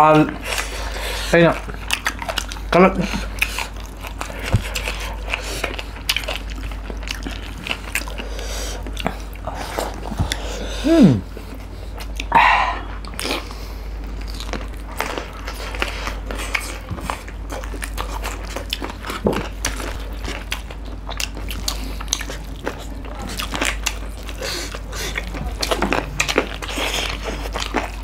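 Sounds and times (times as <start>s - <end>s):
person chewing and biting food: 0.1s - 28.0s.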